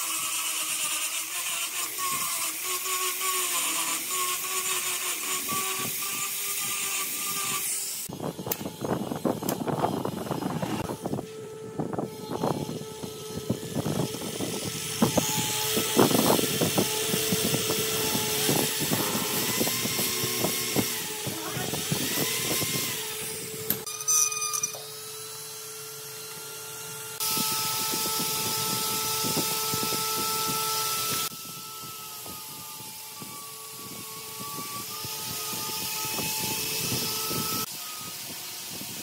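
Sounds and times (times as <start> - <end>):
electric drill boring into wood: 0.0 - 39.0.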